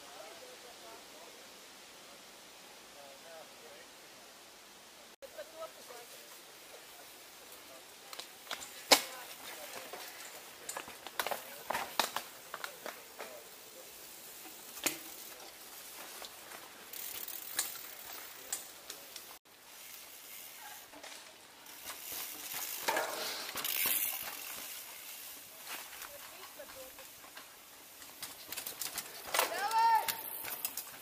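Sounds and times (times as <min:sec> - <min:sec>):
bike tyres crunching over dirt: 0:05.6 - 0:31.0.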